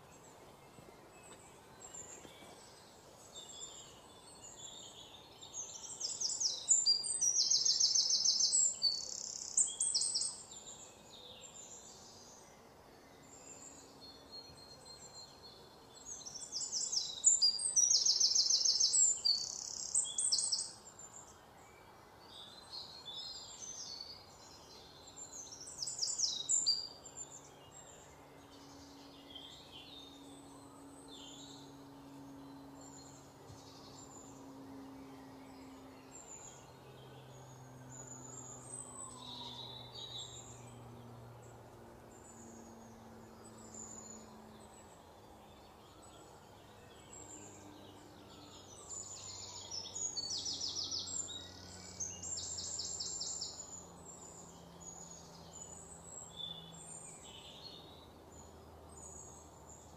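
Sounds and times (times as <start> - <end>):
faint low hum: 0.0 - 59.9
songbirds chirping: 0.0 - 59.9.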